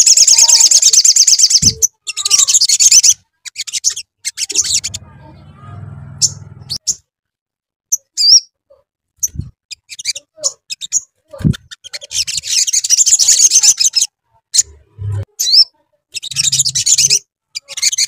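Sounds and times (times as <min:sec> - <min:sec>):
rapid chattering bird trill: 0:00.0 - 0:07.0, 0:09.2 - 0:18.0.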